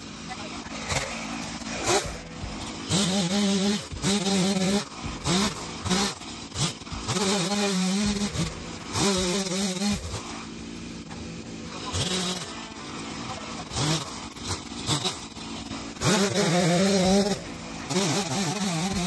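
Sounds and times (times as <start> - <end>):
engine revving in short bursts: 0.0 - 10.5, 11.6 - 19.0.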